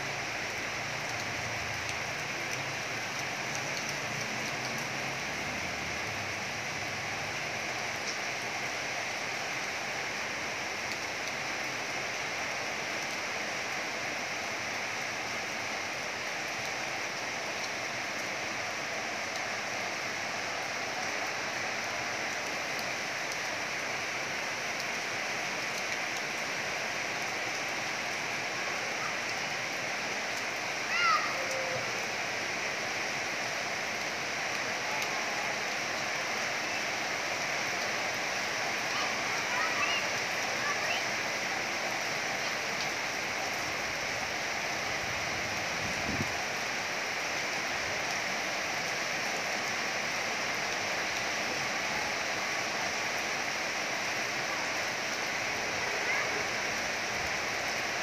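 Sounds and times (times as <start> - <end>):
heavy rain on road and trees: 0.0 - 58.0.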